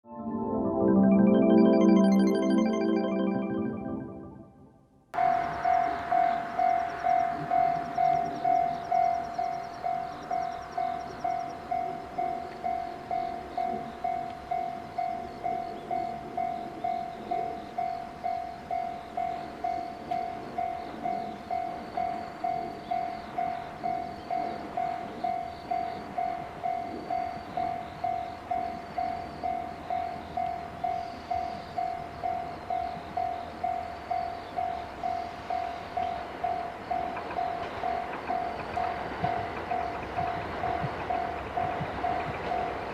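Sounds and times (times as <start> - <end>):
level crossing warning bell: 5.2 - 42.9.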